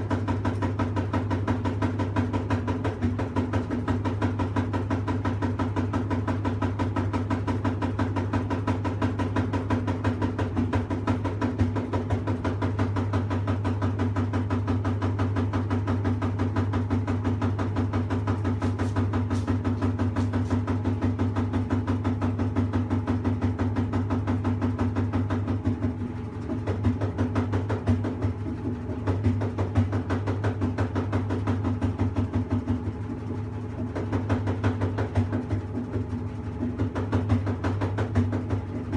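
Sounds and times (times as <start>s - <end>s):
washing machine knocking rattle: 0.0s - 38.9s
washing machine low hum: 0.0s - 38.9s.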